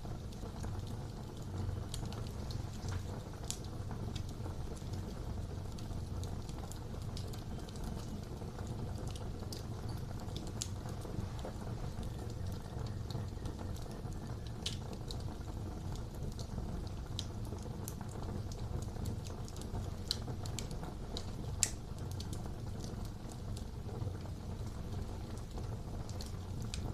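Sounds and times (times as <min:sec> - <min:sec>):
low rush of flame: 0:00.0 - 0:26.9
wood fire crackling: 0:00.0 - 0:26.9.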